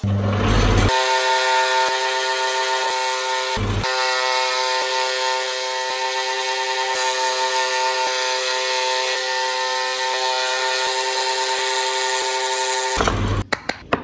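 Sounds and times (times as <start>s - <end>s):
scroll saw cutting wood: 0.0s - 13.4s.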